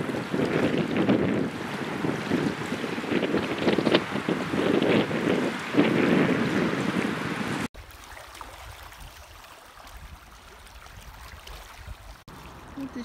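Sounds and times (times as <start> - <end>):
wind buffeting microphone: 0.0 - 7.7, 8.6 - 13.0
rushing river water: 0.0 - 13.0.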